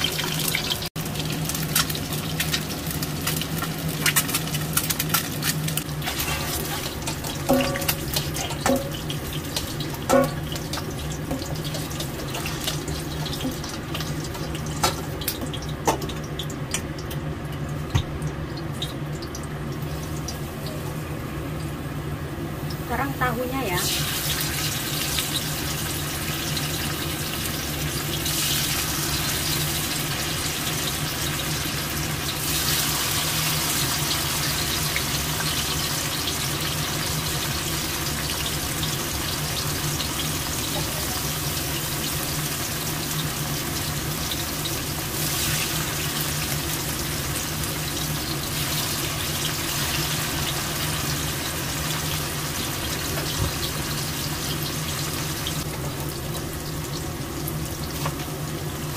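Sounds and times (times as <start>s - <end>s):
tofu sizzling in hot oil: 0.0s - 16.7s, 22.6s - 58.9s.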